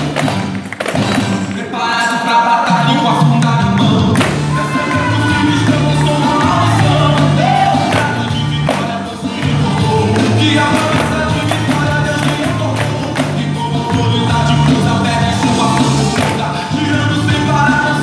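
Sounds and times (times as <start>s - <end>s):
gospel singing with bass: 0.0s - 18.0s.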